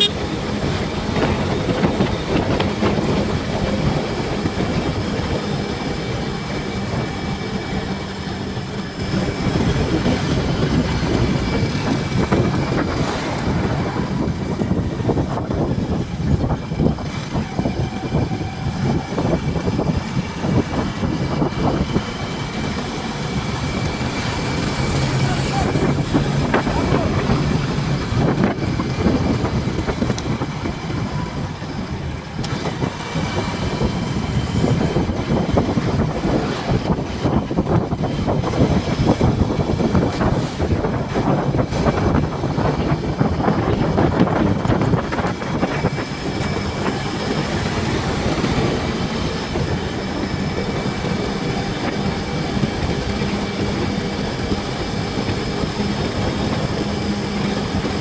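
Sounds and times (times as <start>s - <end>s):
motorcycle engine humming: 0.0s - 58.0s
wind and road rumble: 0.0s - 58.0s.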